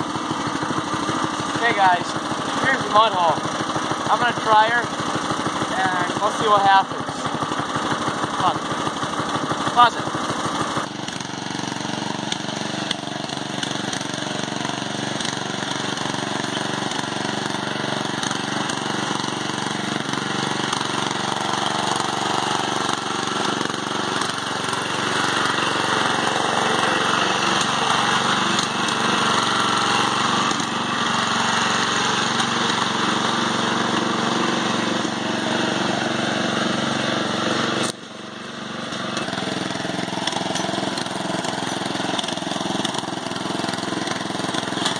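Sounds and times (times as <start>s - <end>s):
lawn mower engine under load: 0.0s - 44.9s.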